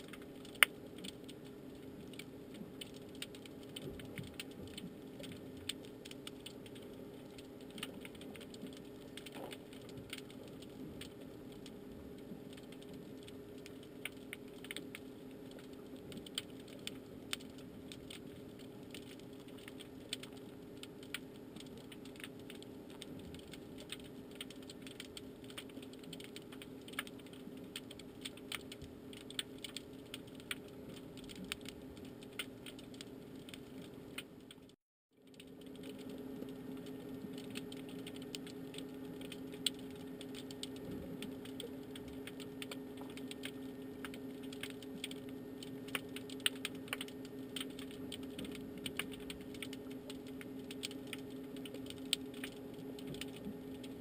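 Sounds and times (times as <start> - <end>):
steady low hum: 0.0 - 54.0
underwater crackle of clicks: 0.0 - 54.0.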